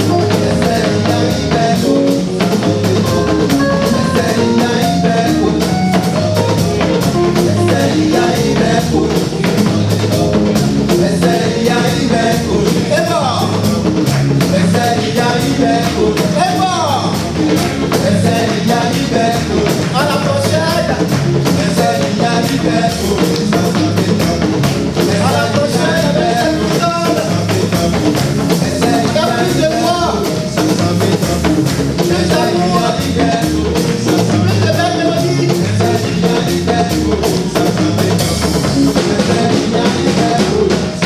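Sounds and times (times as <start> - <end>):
person singing: 0.0 - 10.3, 18.0 - 41.0
band music with drum-kit beat: 0.0 - 41.0.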